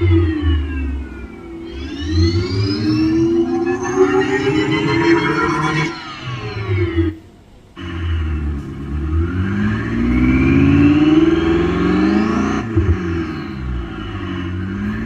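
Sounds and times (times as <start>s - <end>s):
synthetic engine exhaust note: 0.0s - 15.0s.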